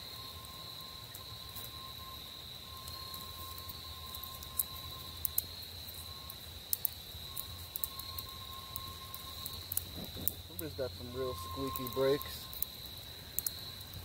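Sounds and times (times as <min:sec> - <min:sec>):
campfire crackling: 0:00.0 - 0:14.0
crickets trilling: 0:00.0 - 0:14.0.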